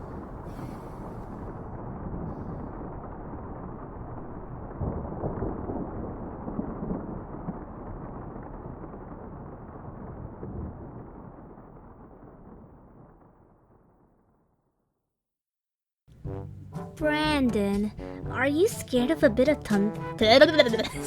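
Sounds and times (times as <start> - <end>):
steady rain: 0.0 - 14.1, 17.8 - 21.0
thunder rumbling: 0.0 - 14.4, 16.1 - 21.0.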